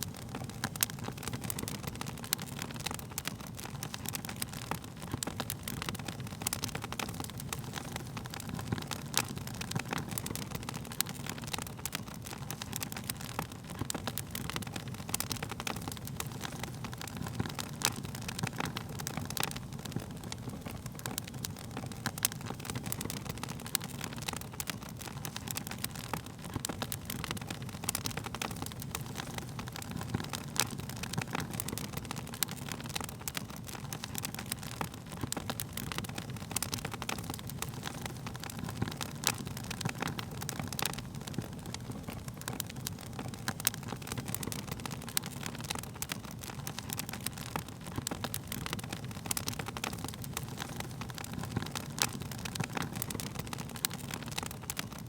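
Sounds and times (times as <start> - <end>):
burning wood crackling and popping: 0.0 - 55.0
low rumble of flames: 0.0 - 55.0.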